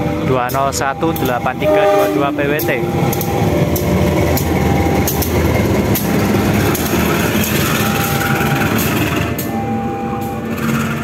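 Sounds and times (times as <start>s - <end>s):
diesel locomotive drone: 0.0s - 11.0s
wheels clicking over rail joints: 0.3s - 9.5s.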